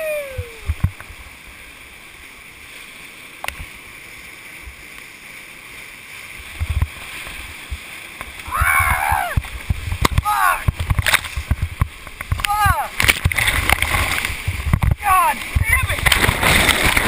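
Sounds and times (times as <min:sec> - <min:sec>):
whitewater rapids rushing: 0:00.0 - 0:17.0.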